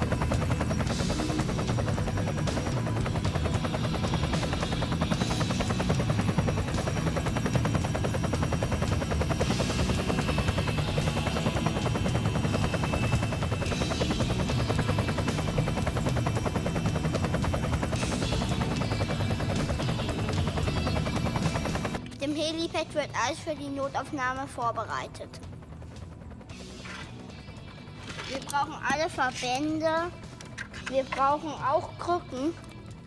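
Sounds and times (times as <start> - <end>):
model helicopter rotor whirring: 0.0 - 32.4.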